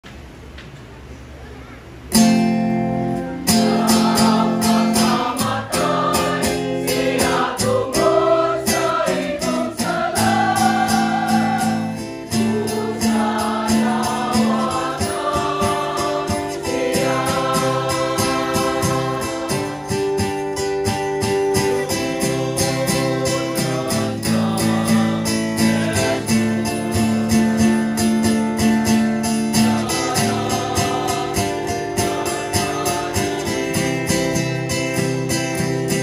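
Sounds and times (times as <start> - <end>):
strummed acoustic guitar: 2.1 - 36.0
choir singing a hymn: 3.4 - 35.8.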